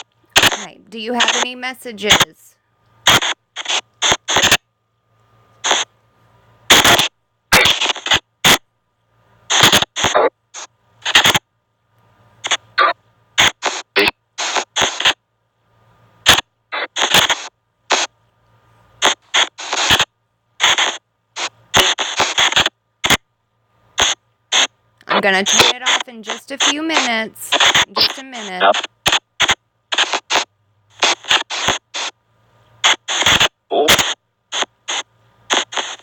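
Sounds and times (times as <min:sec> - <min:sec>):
bursts of chopped static: 0:00.0 - 0:02.4, 0:03.0 - 0:04.8, 0:05.4 - 0:06.0, 0:06.6 - 0:08.7, 0:09.4 - 0:11.6, 0:12.4 - 0:15.3, 0:15.9 - 0:18.2, 0:18.9 - 0:36.0.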